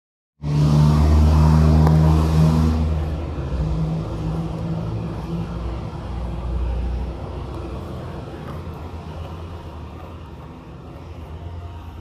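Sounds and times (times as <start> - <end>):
engine humming: 0.4 - 12.0.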